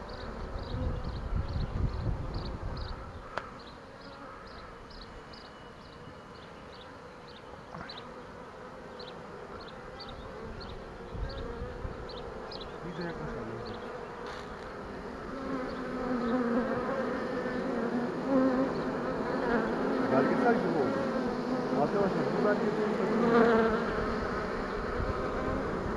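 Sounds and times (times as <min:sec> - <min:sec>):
bees buzzing: 0:00.0 - 0:25.9.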